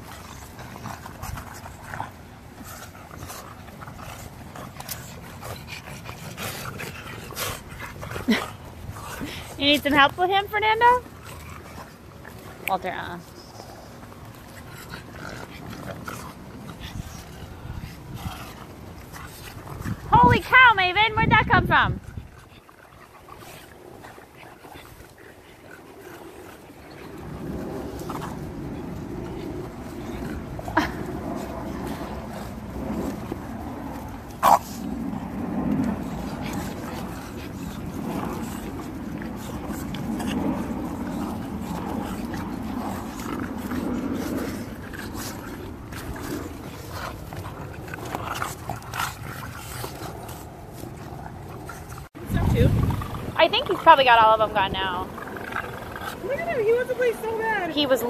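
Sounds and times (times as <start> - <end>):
dogs growling playfully: 0.0 - 58.0.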